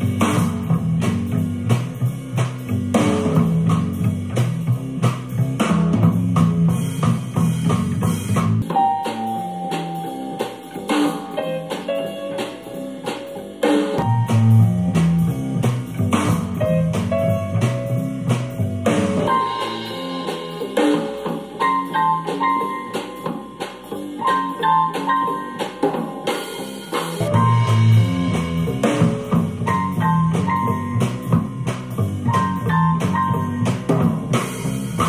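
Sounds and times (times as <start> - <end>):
song with guitar and drums: 0.0 - 35.0.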